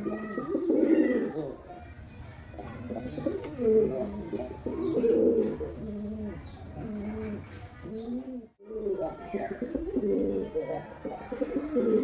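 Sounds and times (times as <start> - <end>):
pigeon cooing: 0.0 - 1.6, 2.6 - 12.0.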